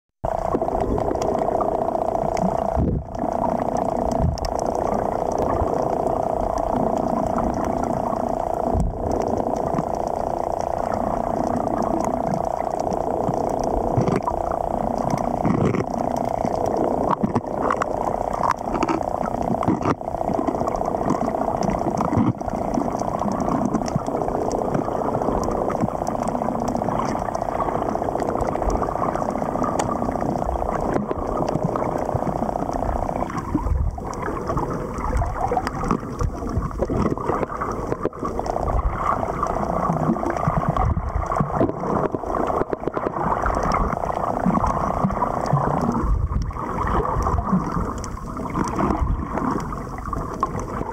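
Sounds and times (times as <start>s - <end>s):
muffled underwater drone: 0.2s - 50.9s
clicks and crackles: 0.4s - 50.9s.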